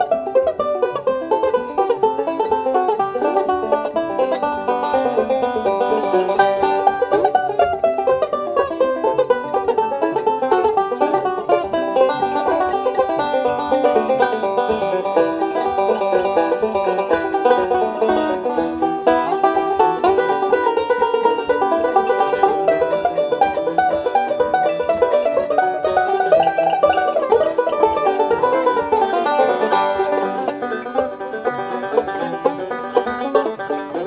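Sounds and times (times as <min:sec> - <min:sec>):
banjo playing bluegrass tune: 0:00.0 - 0:34.0.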